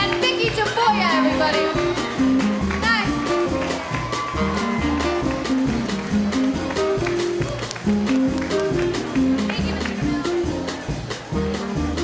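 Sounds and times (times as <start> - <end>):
bass line: 0.0 - 12.0
drum hits: 0.0 - 12.0
guitar: 0.0 - 12.0
jazz band playing swing: 0.0 - 12.0.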